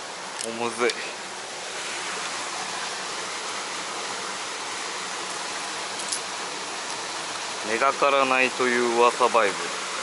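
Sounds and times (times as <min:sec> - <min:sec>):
stream water rushing over rocks: 0:00.0 - 0:10.0.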